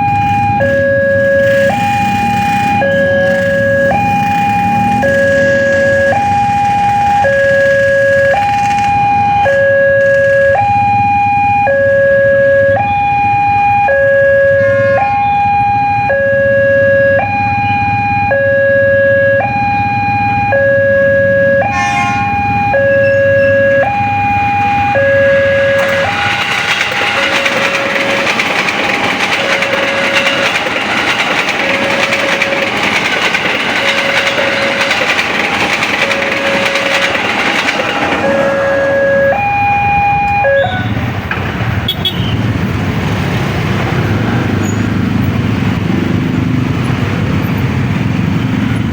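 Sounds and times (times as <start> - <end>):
level crossing alarm: 0.0 - 42.4
train passing: 0.0 - 48.9.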